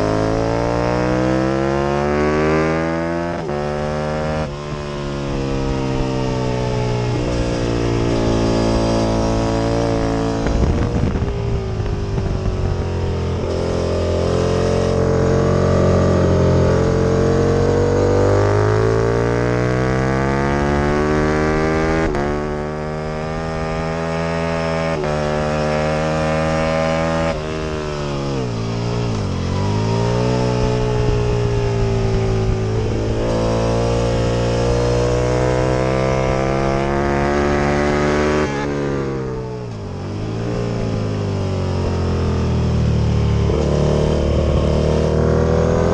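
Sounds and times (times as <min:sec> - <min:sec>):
motorcycle engine at full throttle: 0:00.0 - 0:45.9.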